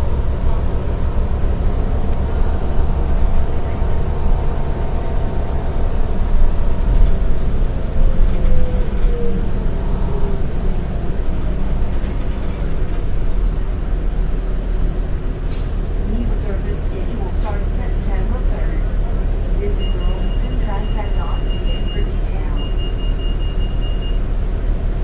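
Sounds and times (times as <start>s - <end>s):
bus engine rumbling: 0.0s - 25.0s
road noise: 0.0s - 25.0s.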